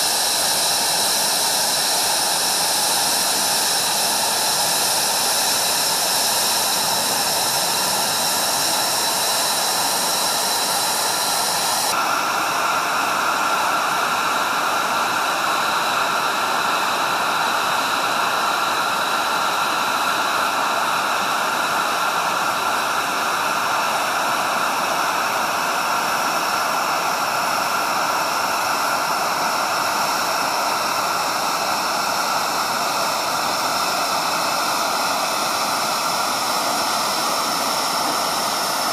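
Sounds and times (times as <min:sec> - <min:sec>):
jet engines roaring in flight: 0:00.0 - 0:38.9.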